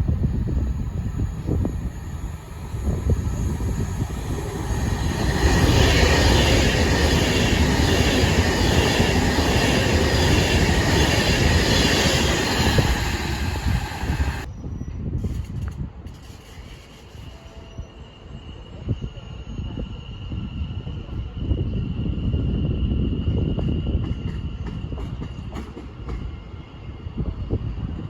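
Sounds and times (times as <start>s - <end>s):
train wheels rushing on rails: 0.0s - 14.5s, 15.2s - 28.0s.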